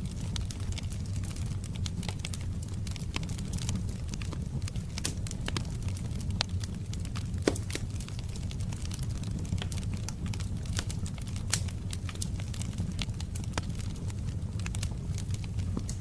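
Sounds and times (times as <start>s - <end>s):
fire popping and snapping: 0.0s - 16.0s
wood fire crackling: 0.0s - 16.0s.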